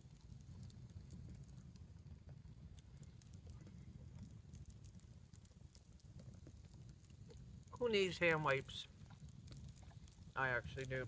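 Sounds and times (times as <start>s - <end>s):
small ticks and crackles: 0.0s - 11.0s.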